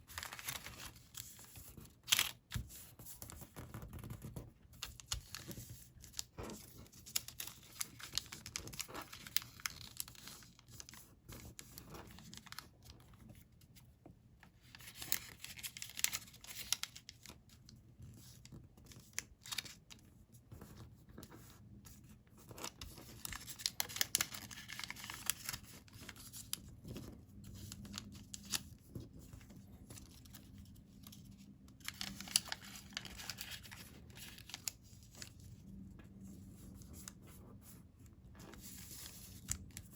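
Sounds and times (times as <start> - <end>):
paper being folded and creased: 0.0 - 13.8, 14.5 - 37.8, 38.4 - 39.9.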